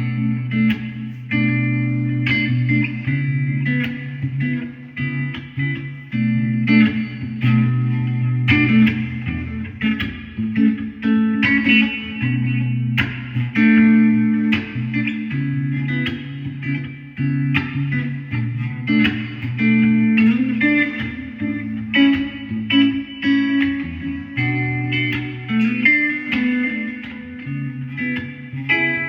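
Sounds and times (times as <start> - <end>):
electric guitar picking: 0.0 - 29.0.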